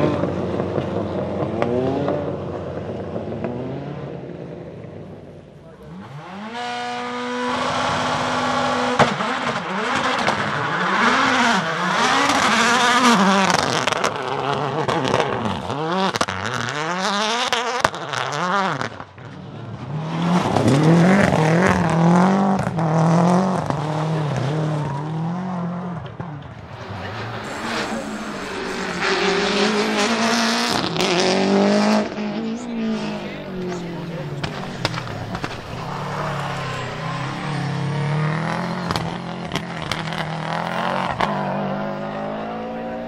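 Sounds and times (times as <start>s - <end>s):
rally car engine revving: 0.0s - 43.0s
rally car engine warbling: 0.0s - 43.0s.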